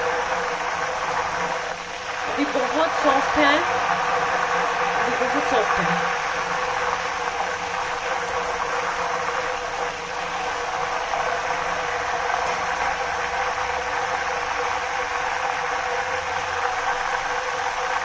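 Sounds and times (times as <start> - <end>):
banana slices deep-frying in oil: 0.0 - 18.0.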